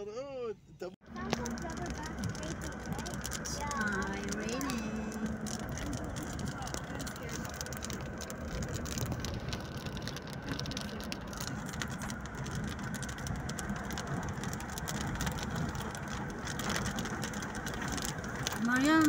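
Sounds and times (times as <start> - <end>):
car driving on wet road: 1.0 - 19.0
raindrops ticking on windshield: 1.0 - 19.0.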